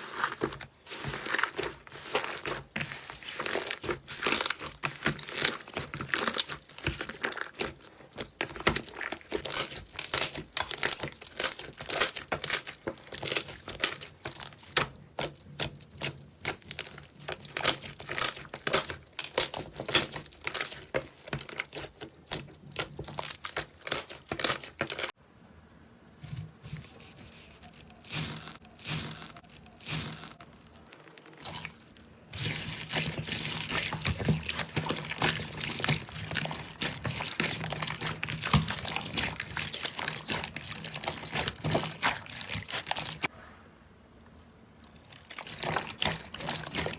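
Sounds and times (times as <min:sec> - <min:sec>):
slime crackling and popping: 0:00.1 - 0:25.2, 0:27.7 - 0:43.3.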